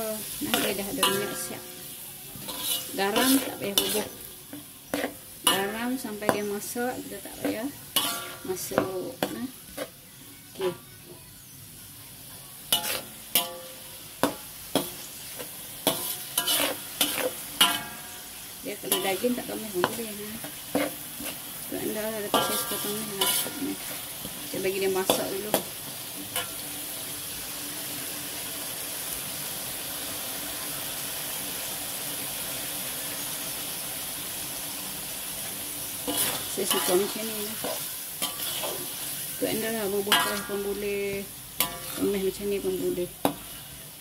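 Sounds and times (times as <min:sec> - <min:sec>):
spice paste sizzling in oil: 0:00.0 - 0:44.0.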